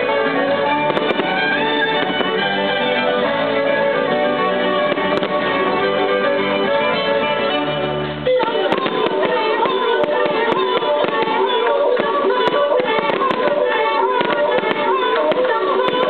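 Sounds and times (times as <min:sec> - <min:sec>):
loud music: 0:00.0 - 0:15.8
fireworks bursting and crackling: 0:00.0 - 0:16.0.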